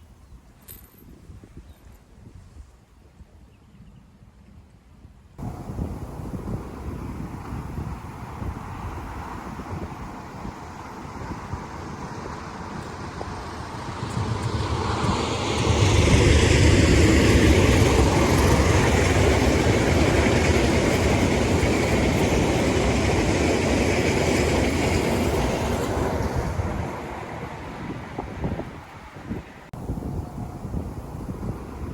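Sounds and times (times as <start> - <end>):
train rumbling and rattling: 5.4 - 31.9.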